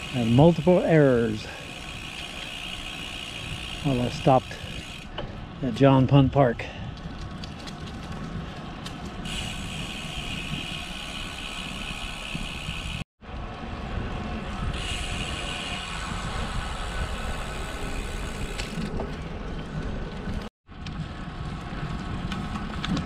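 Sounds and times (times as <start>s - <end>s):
bike tyres rolling on pavement: 0.0s - 23.0s
wind buffeting microphone: 1.1s - 23.0s.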